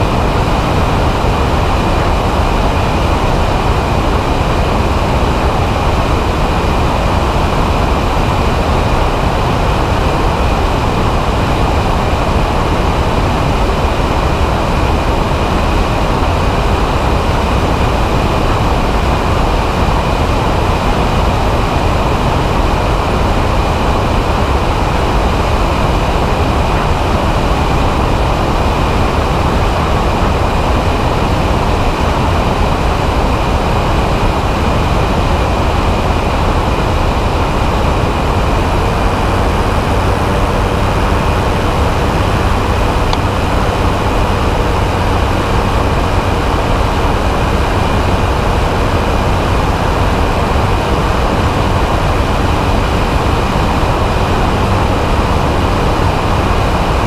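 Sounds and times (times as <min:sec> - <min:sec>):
engine and propeller running: 0:00.0 - 0:57.0
wind rush on microphone: 0:00.0 - 0:57.0.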